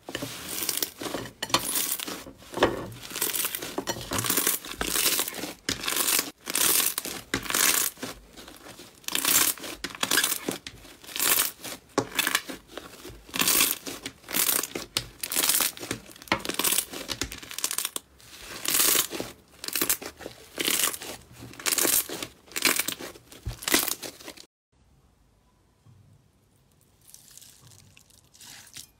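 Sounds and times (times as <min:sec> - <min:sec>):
slime squelching by hand: 0:00.0 - 0:24.5.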